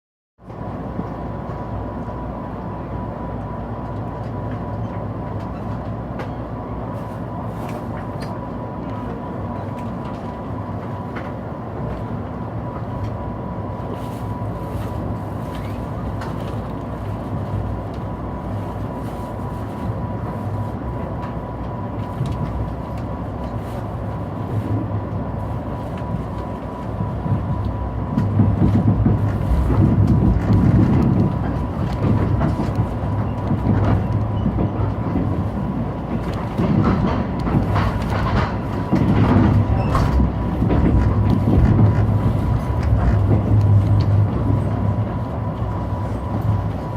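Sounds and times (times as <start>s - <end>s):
train rumbling hum: 0.4s - 46.9s.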